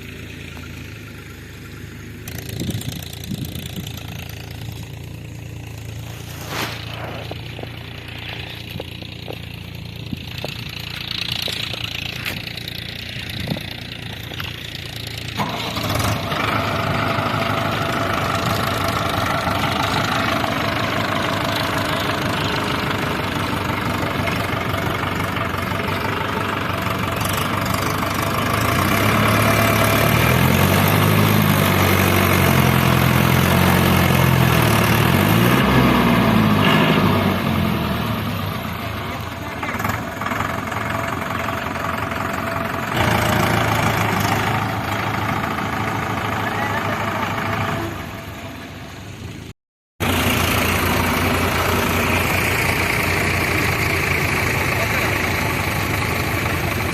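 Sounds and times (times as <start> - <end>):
diesel engine running and revving: 0.0 - 56.9.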